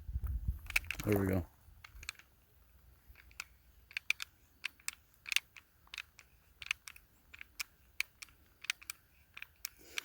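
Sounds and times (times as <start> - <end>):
pistol parts clicking: 0.2 - 10.0.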